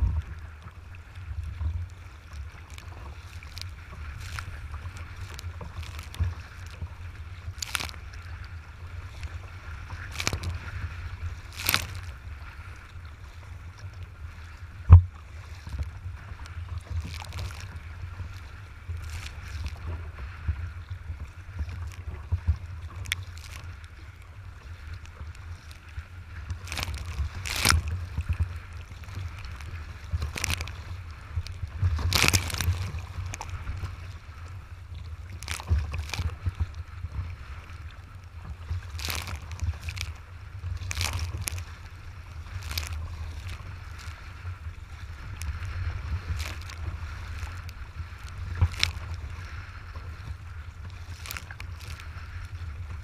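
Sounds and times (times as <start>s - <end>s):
waves splashing against kayak: 0.0s - 53.0s
wind rumble on microphone: 0.0s - 53.0s.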